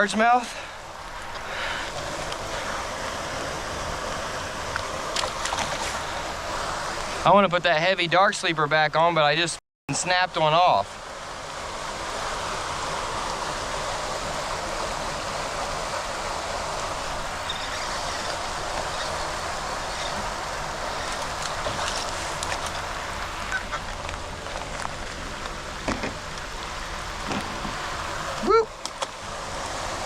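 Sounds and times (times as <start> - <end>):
floodwater rushing through storm drain: 0.0 - 7.6, 9.9 - 30.0.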